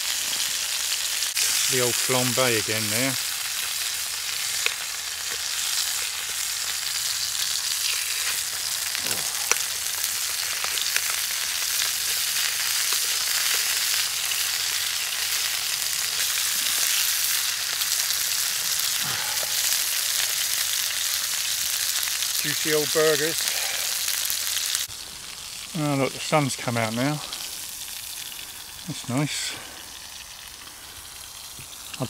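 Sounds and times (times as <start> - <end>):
burgers sizzling in frying pan: 0.0 - 32.0.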